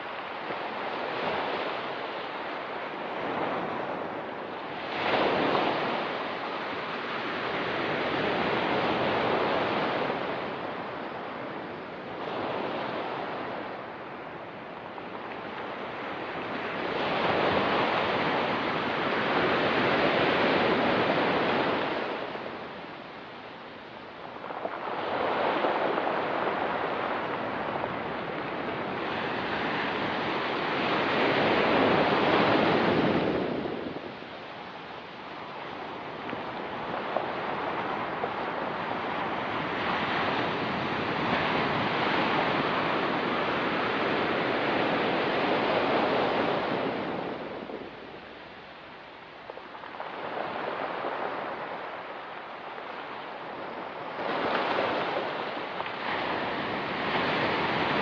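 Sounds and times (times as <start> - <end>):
ocean waves on rocky beach: 0.0 - 58.0.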